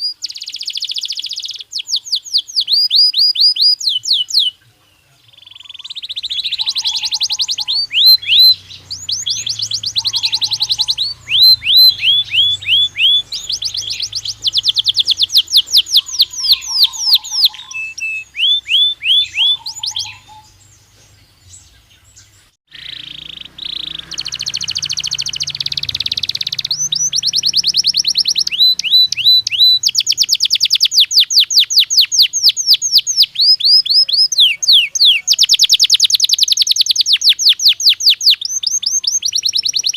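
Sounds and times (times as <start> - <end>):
canary trilling: 0.0 - 4.6, 5.3 - 20.7, 22.7 - 39.9.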